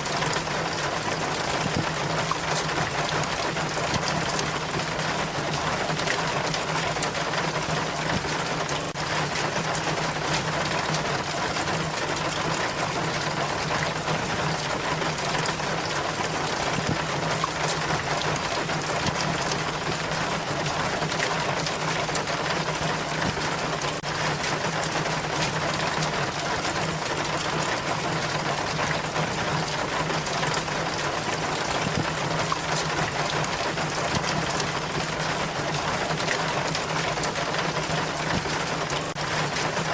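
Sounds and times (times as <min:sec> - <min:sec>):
water trickling down rain chain: 0:00.0 - 0:39.9.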